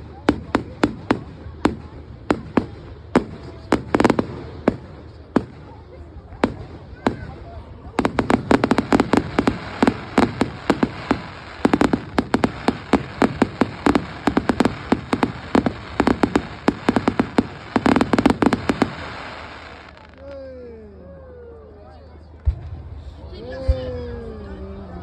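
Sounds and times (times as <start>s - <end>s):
fireworks bangs: 0.0s - 20.2s.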